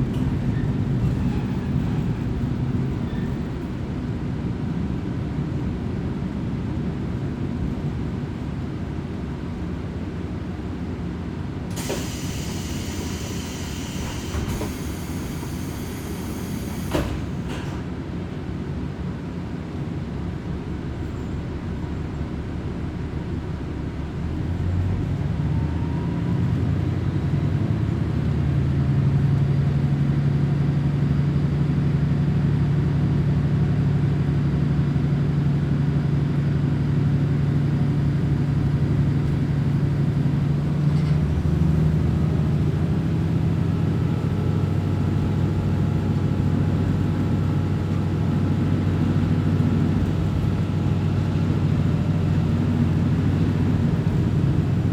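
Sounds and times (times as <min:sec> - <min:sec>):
rail rumble: 0:00.0 - 0:54.9
railcar engine drone: 0:00.0 - 0:54.9.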